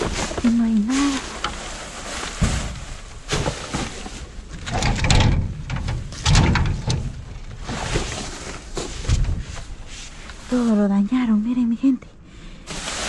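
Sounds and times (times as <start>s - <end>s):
rummaging in a dumpster: 0.0s - 10.9s, 12.6s - 13.0s.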